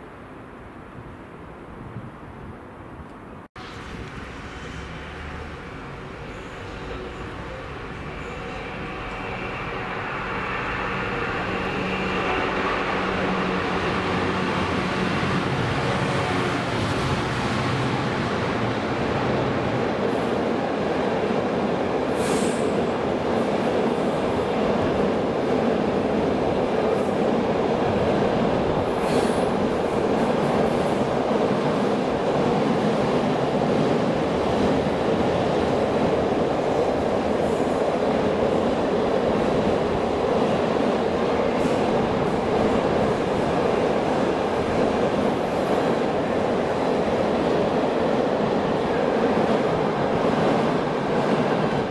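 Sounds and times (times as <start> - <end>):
diesel locomotive engine passing: 3.6 - 51.9.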